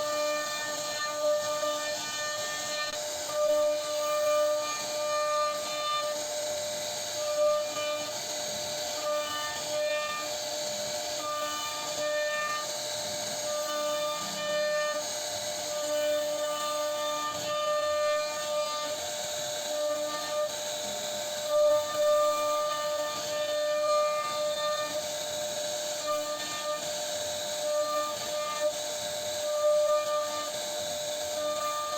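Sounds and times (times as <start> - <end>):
hiss of cutting wood: 0.0 - 31.9
router spindle whining: 0.0 - 31.9.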